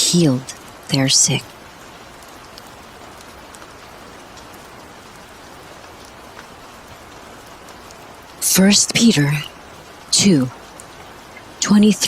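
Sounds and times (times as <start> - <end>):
steady rain patter: 0.0 - 12.0.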